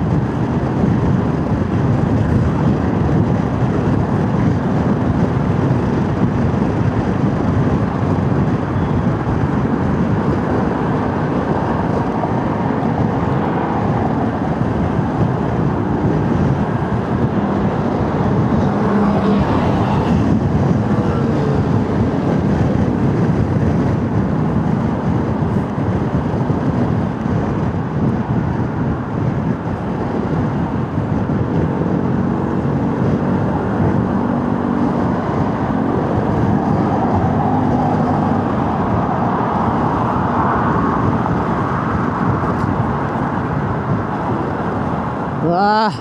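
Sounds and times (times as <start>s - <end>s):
motorcycle engine running: 0.0s - 39.0s
wind rush over microphone: 0.0s - 46.0s.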